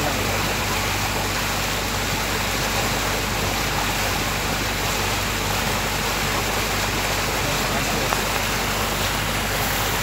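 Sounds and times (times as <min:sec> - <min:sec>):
boat engine hum: 0:00.0 - 0:10.0
water rushing along hull: 0:00.0 - 0:10.0.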